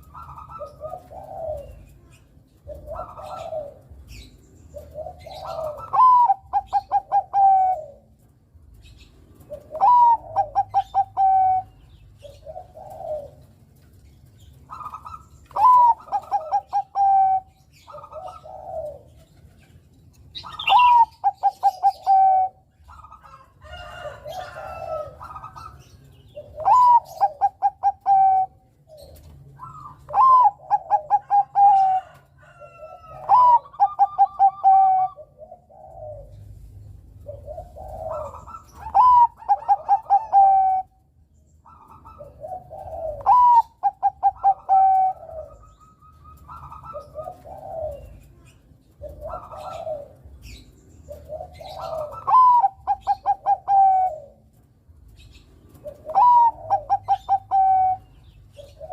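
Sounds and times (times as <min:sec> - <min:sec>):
dove cooing song: 0:00.0 - 0:58.9.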